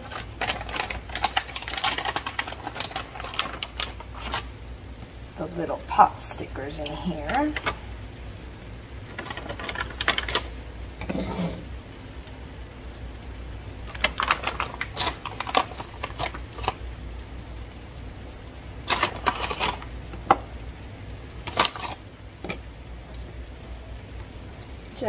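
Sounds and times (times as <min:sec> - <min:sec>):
dumplings crackling in hot pan: 0:00.0 - 0:25.0.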